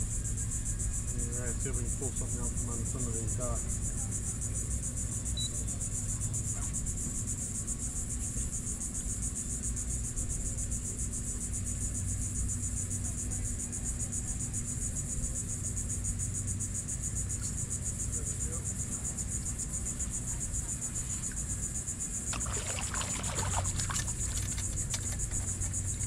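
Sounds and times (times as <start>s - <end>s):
insect chorus buzzing: 0.0s - 26.0s.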